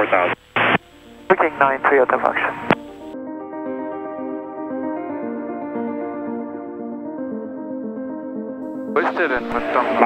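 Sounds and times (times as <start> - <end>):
instrumental music with held notes: 0.8 - 10.0.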